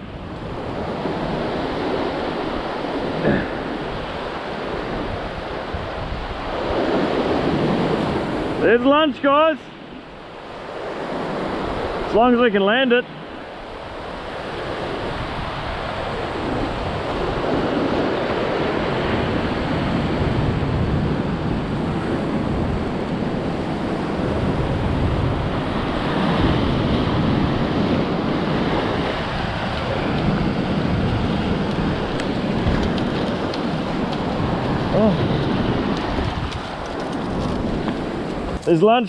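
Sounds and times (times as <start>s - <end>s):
ocean surf over rocks: 0.0s - 39.0s
wind buffeting microphone: 0.0s - 39.0s.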